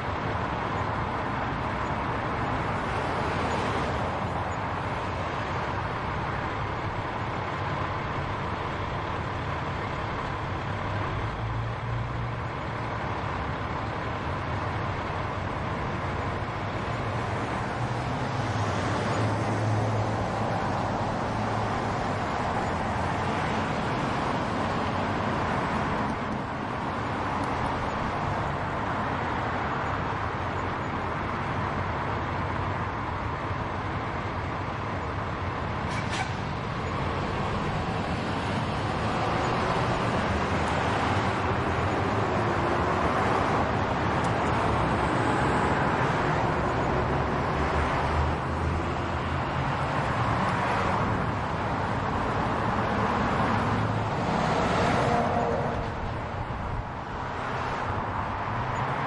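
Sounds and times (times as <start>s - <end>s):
road traffic driving past: 0.0s - 59.0s.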